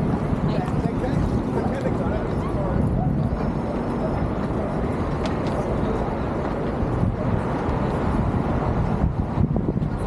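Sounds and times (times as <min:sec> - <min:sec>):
low traffic rumble: 0:00.0 - 0:10.0.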